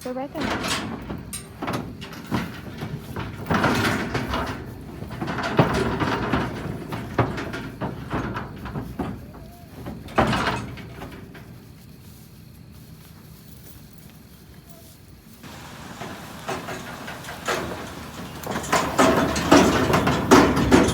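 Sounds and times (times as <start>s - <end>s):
metal gates rattling and clanging: 0.0s - 11.7s, 15.4s - 20.9s.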